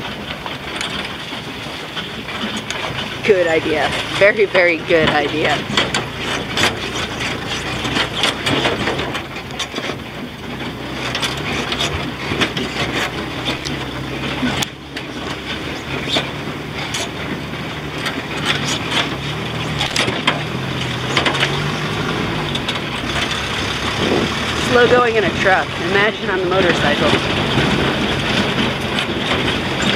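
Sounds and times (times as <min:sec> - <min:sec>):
truck engine running: 0:00.0 - 0:29.9
truck knocking and rattling: 0:00.0 - 0:29.9.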